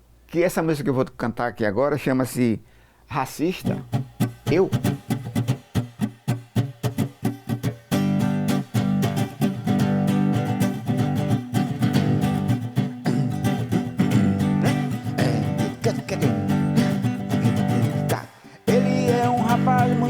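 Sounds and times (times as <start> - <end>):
acoustic guitar strumming: 3.6 - 20.0.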